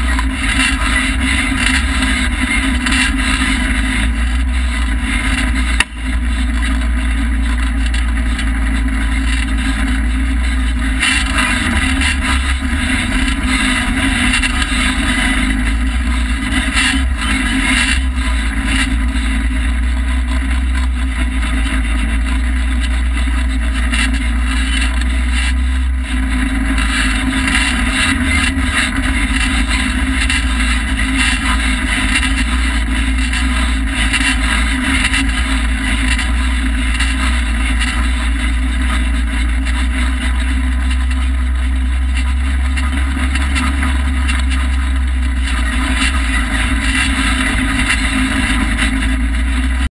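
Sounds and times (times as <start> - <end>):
vehicle engine drone: 0.0 - 49.9.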